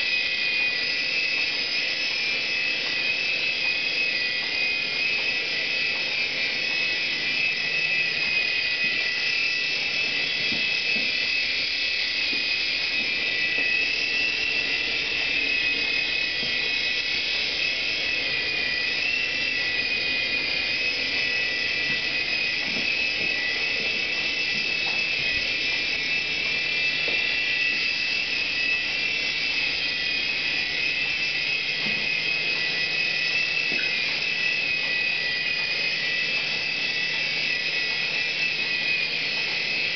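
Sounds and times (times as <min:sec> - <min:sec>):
toy helicopter motors whining: 0:00.0 - 0:39.9.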